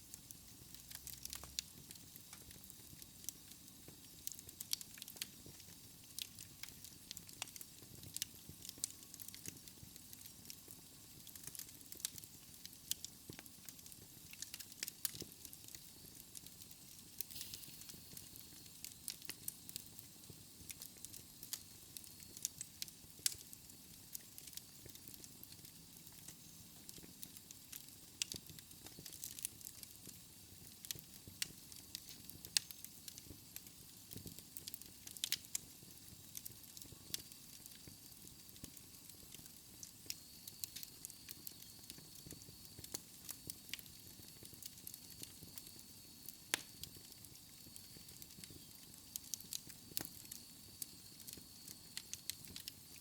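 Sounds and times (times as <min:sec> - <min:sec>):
fire crackling and popping: 0:00.0 - 0:53.0
soft steady hiss: 0:00.0 - 0:53.0.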